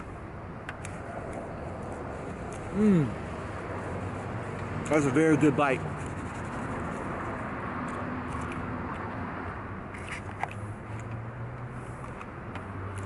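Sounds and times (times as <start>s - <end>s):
traffic hum: 0.0s - 13.0s.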